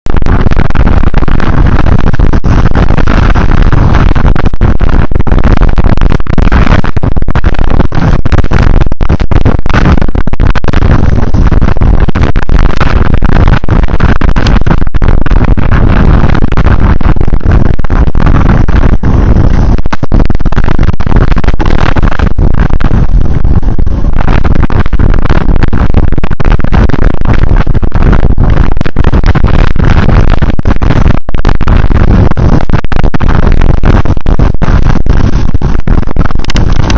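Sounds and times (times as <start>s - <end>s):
wind and rain on microphone: 0.1s - 36.9s.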